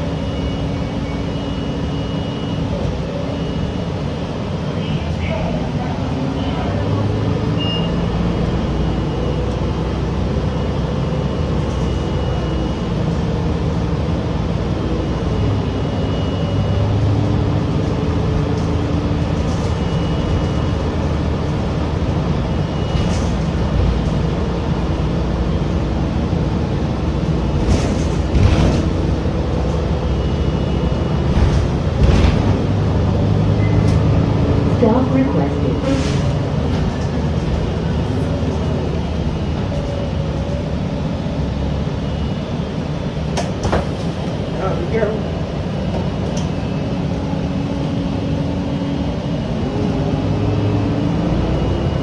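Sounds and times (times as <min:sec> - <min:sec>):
bus engine droning: 0:00.0 - 0:52.0.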